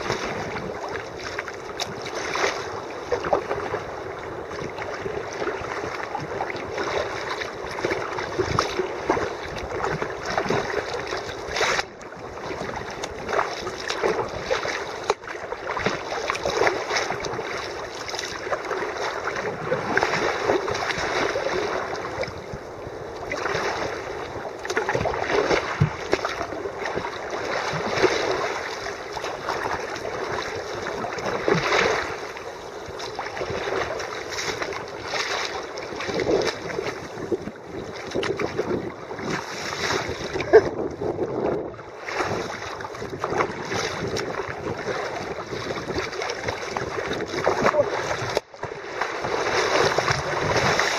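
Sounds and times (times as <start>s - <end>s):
water splashing against kayak hull: 0.0s - 50.9s.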